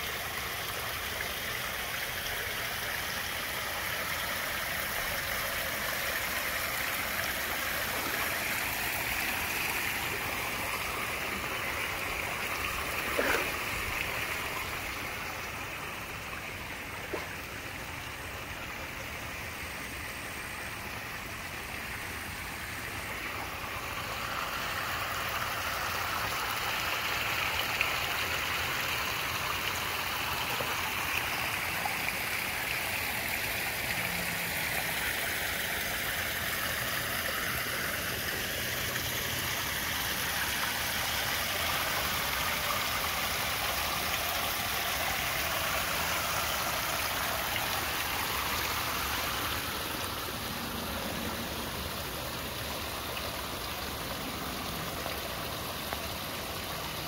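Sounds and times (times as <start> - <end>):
water splashing over rocks: 0.0 - 57.0.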